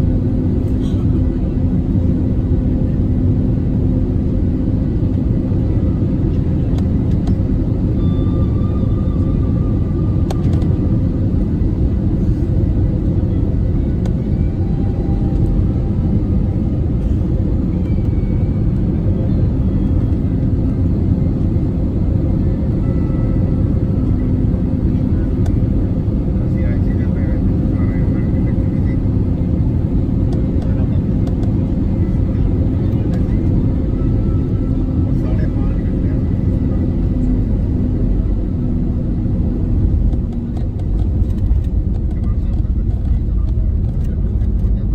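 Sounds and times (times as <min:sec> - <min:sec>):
aircraft cabin rumble: 0:00.0 - 0:44.9
constant low hum: 0:00.0 - 0:44.9.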